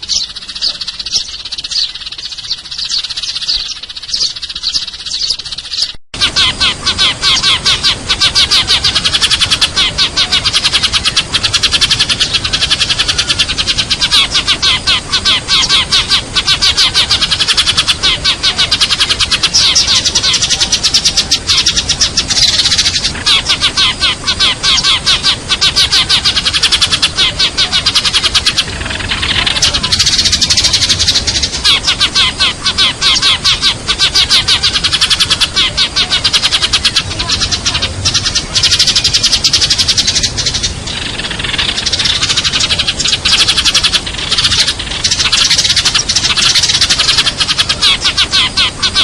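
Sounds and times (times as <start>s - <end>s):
sparrows chirping rapidly: 0.0s - 49.0s.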